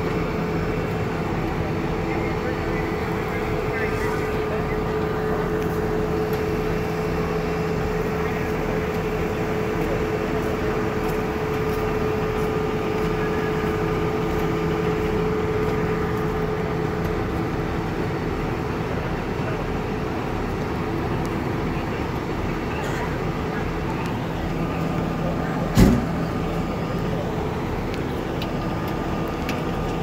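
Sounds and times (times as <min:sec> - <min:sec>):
fire engine droning: 0:00.0 - 0:30.0.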